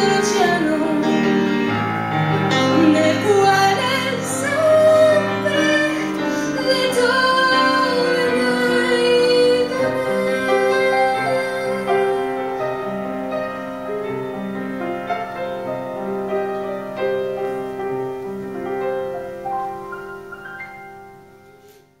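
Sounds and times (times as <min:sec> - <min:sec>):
slow piano playing: 0:00.0 - 0:22.0.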